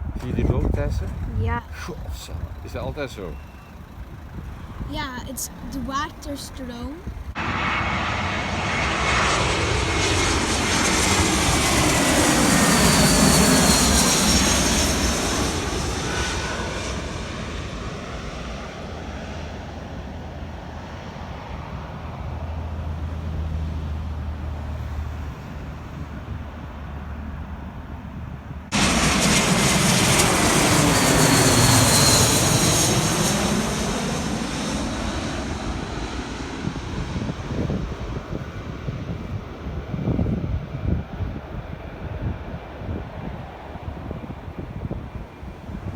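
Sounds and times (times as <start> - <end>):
airplane engines passing overhead: 0.0 - 45.9.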